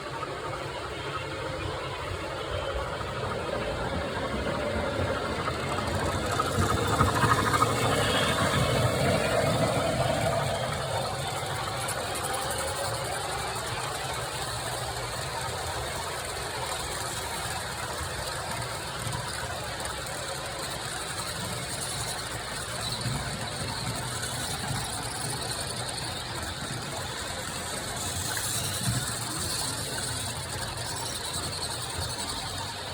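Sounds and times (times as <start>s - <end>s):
model train wheels clicking: 0.0s - 32.9s.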